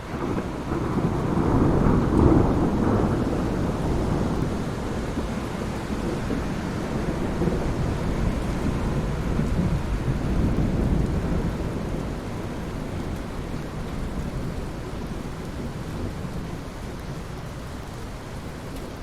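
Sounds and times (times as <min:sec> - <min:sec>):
low roll of thunder: 0:00.0 - 0:17.5
steady rain: 0:00.0 - 0:19.0.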